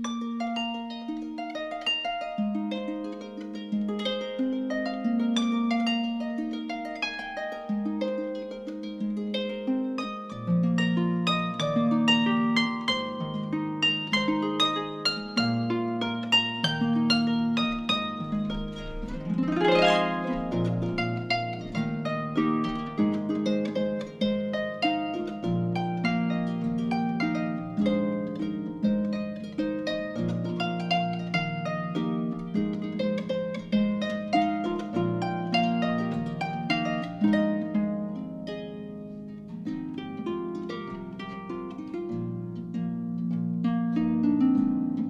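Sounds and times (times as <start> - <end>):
harp playing: 0.0 - 45.0.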